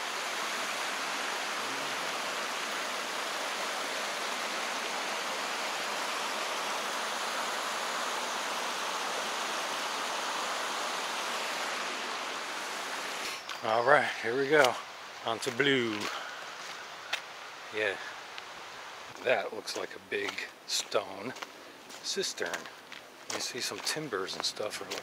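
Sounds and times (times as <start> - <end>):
stream running: 0.0 - 25.0.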